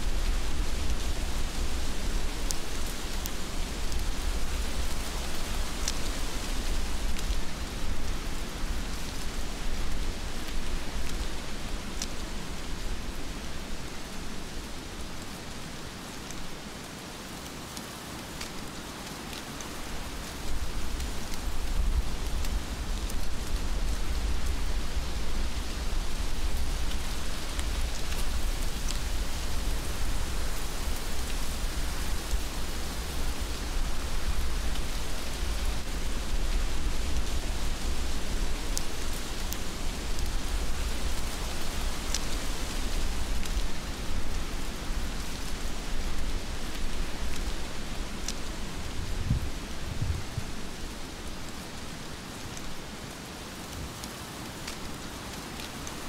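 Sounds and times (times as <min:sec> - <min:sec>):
heavy rain falling: 0:00.0 - 0:56.0
raindrops ticking close by: 0:00.1 - 0:56.0.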